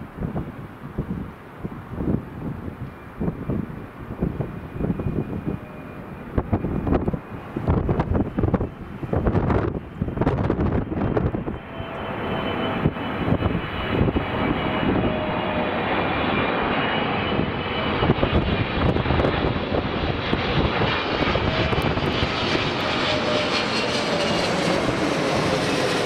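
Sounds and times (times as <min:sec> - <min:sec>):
jet engines passing overhead: 0:00.0 - 0:26.0
wind buffeting microphone: 0:00.0 - 0:26.0.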